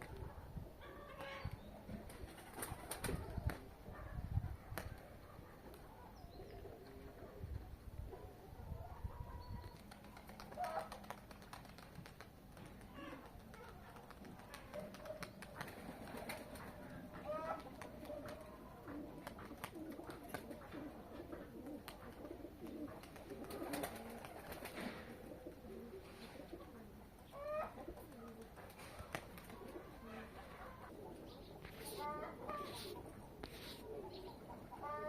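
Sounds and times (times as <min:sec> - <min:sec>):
pigeons cooing: 0:00.0 - 0:35.0.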